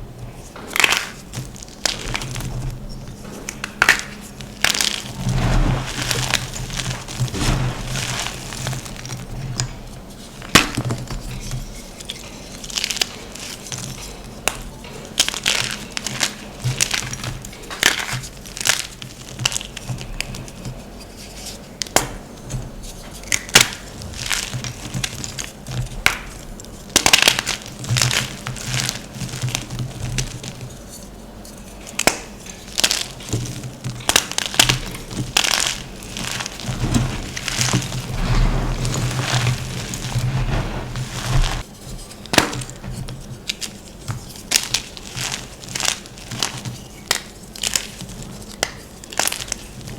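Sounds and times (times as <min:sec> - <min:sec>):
chalk crunching and crackling: 0:00.8 - 0:14.2, 0:23.3 - 0:49.9.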